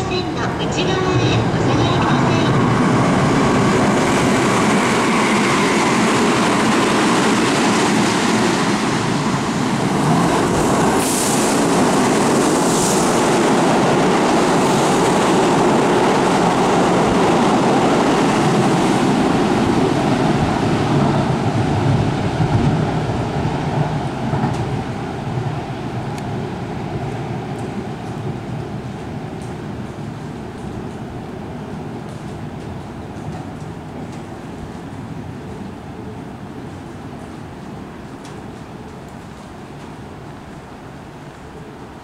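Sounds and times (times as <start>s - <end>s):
electric train rumble: 0.0s - 42.0s.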